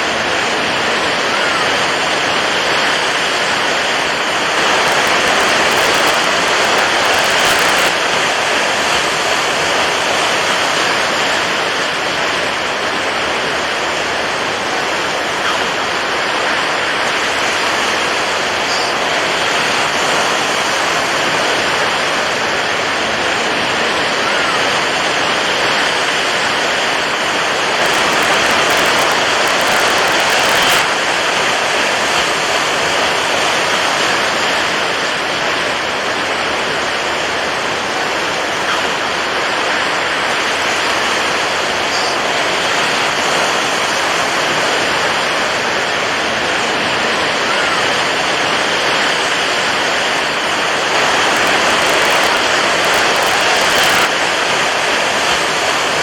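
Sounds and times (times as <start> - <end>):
water waves rushing: 0.0 - 56.0.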